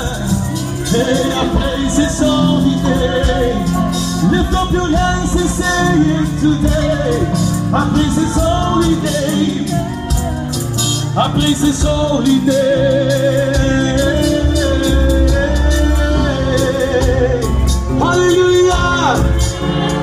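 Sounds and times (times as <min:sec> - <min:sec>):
held bass notes: 0:00.0 - 0:20.0
person singing: 0:00.0 - 0:20.0
worship music: 0:00.0 - 0:20.0.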